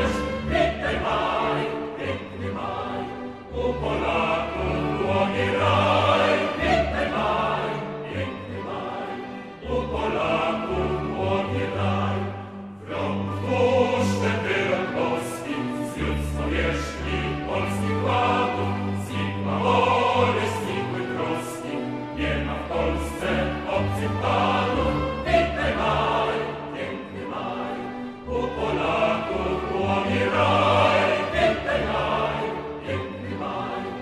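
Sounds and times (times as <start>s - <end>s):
choir singing with instruments: 0.0s - 34.0s.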